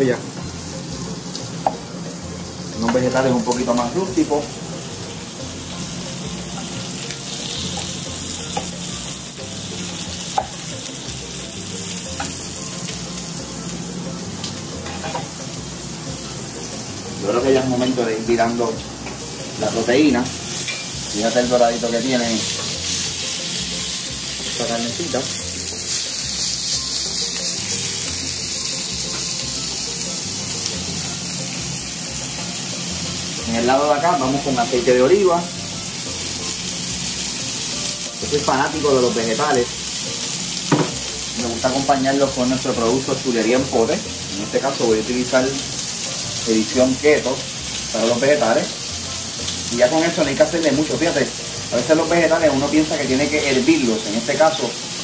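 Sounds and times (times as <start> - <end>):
background music with slow bass: 0.0 - 55.0
food sizzling in a skillet: 0.0 - 55.0.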